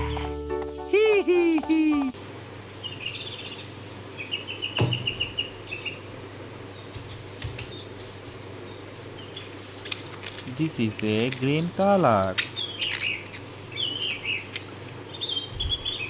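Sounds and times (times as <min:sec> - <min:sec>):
birds chirping: 0:02.2 - 0:16.0.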